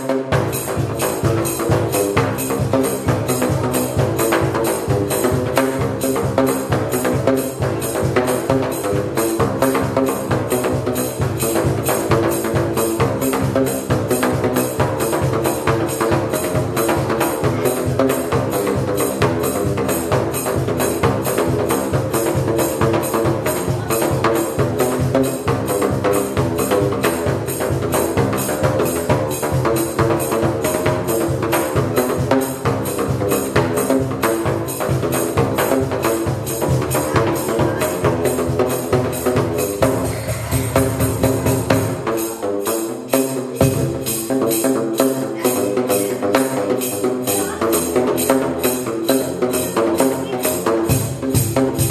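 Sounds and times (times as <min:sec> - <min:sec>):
flip-flops slapping pipe drums: 0:00.0 - 0:51.9.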